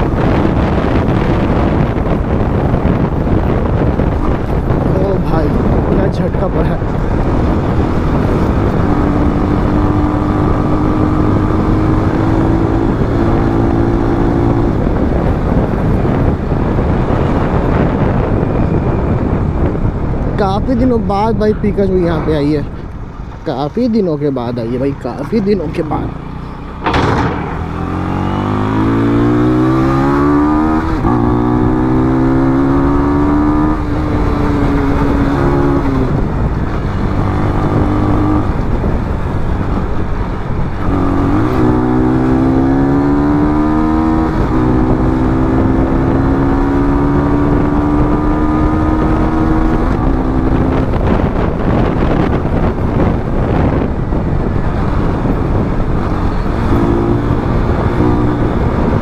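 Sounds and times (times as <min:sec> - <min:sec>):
motorcycle engine accelerating: 0:00.0 - 0:21.2, 0:25.3 - 0:59.0
wind and road noise: 0:00.0 - 0:59.0.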